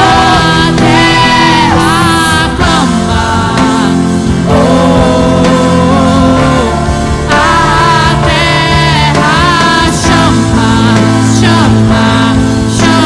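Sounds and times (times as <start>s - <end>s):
woman singing: 0.0s - 13.0s
worship band playing: 0.0s - 13.0s.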